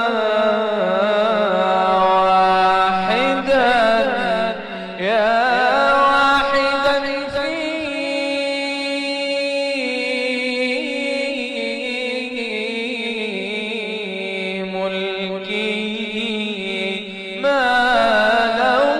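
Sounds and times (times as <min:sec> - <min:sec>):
person chanting: 0:00.0 - 0:18.9.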